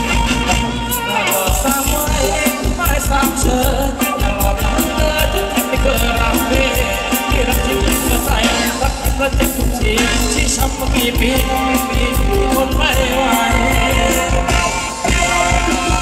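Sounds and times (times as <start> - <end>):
bass and percussion beat: 0.0 - 16.0
dance music from a band: 0.0 - 16.0
person singing: 0.0 - 16.0.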